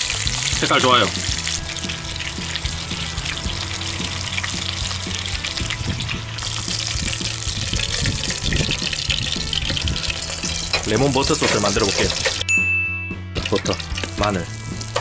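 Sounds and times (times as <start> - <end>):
fish sizzling in a frying pan: 0.0 - 12.4, 13.4 - 15.0
background music: 0.0 - 15.0.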